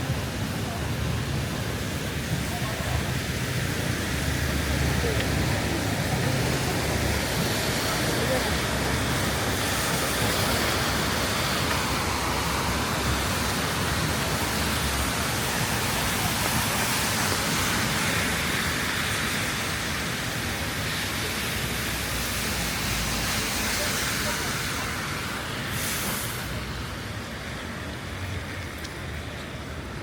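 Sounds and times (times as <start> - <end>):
low rumble of wet street: 0.0 - 30.0
rain falling: 0.0 - 30.0.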